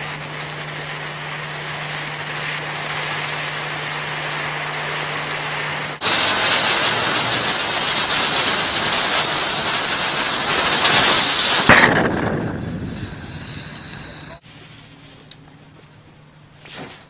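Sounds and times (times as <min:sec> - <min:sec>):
firework hissing: 0:00.0 - 0:15.2.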